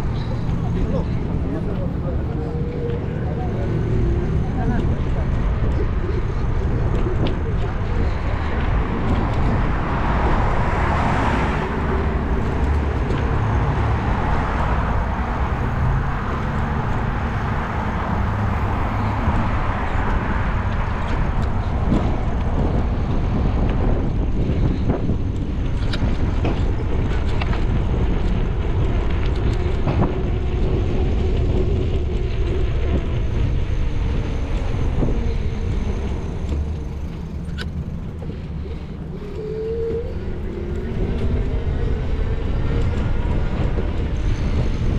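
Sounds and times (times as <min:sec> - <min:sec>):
car engine and road noise: 0:00.0 - 0:44.9
surrounding traffic: 0:00.0 - 0:44.9.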